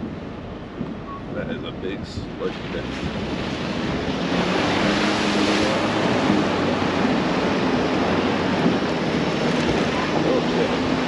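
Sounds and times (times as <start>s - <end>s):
vehicle engine under load: 0.0s - 11.0s
water and mud churning: 0.0s - 11.0s.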